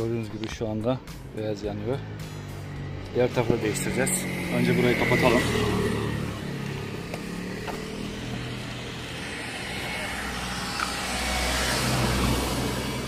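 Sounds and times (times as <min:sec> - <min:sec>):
vehicle engine running: 0:00.1 - 0:13.0.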